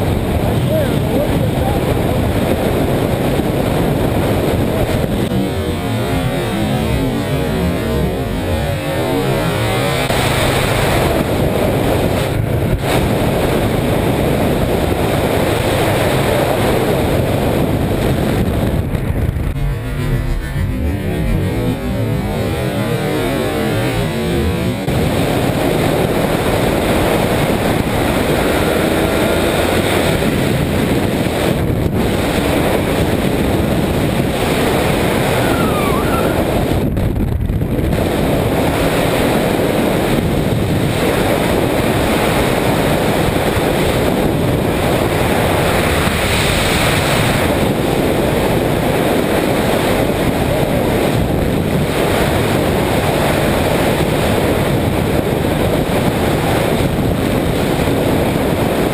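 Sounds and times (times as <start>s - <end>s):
motorcycle engine: 0.0s - 58.9s
road noise: 0.0s - 58.9s
wind buffeting microphone: 0.0s - 58.9s.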